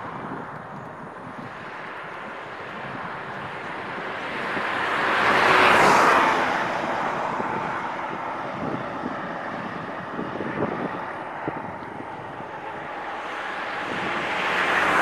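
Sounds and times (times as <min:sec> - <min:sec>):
road and wind noise: 0:00.0 - 0:15.0
vehicle passing by: 0:01.3 - 0:15.0.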